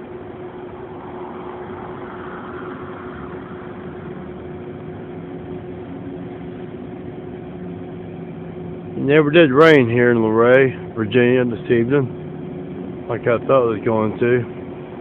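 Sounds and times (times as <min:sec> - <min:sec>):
faint rushing: 0:00.0 - 0:15.0
machine hum: 0:00.0 - 0:15.0.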